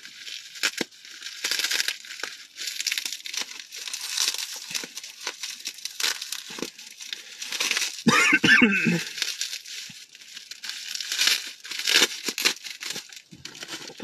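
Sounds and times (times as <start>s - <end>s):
packaging wrap crinkling: 0.0s - 14.0s.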